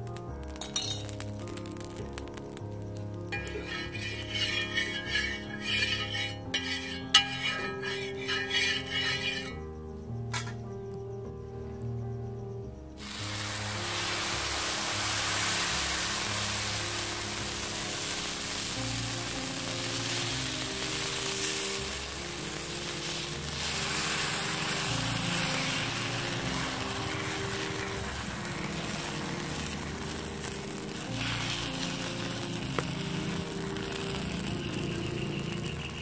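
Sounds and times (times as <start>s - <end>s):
batter sizzling on a griddle: 0.0s - 10.5s, 12.9s - 36.0s
background music: 0.0s - 36.0s.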